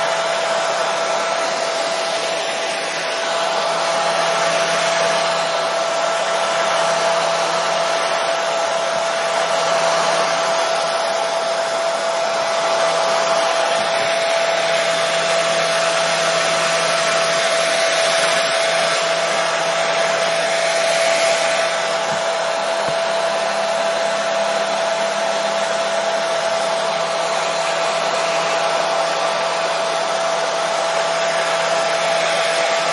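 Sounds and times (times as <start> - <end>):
hair dryer running: 0.0 - 32.9.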